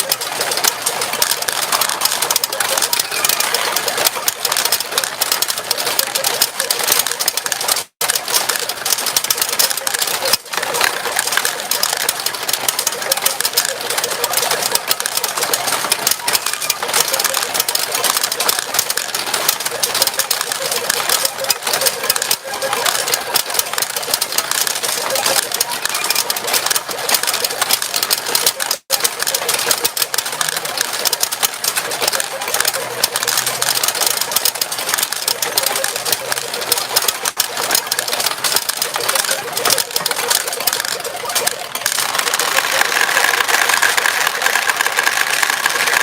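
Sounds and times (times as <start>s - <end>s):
pachinko balls clattering: 0.0s - 46.0s.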